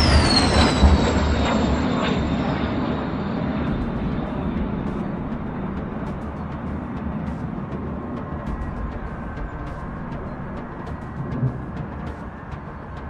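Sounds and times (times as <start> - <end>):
jet engine roaring overhead: 0.0 - 13.0.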